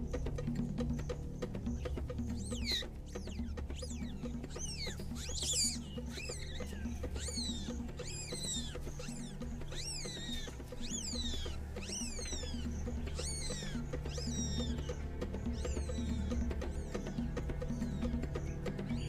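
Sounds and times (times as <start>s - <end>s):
background music: 0.0s - 19.0s
mongoose squealing: 2.2s - 18.2s.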